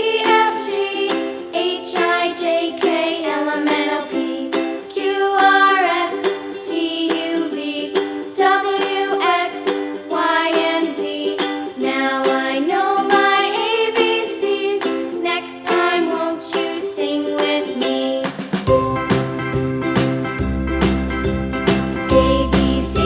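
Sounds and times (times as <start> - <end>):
person singing: 0.0 - 19.6, 22.1 - 23.0
plucked ukulele: 0.0 - 23.0
upbeat children's song: 0.0 - 23.0.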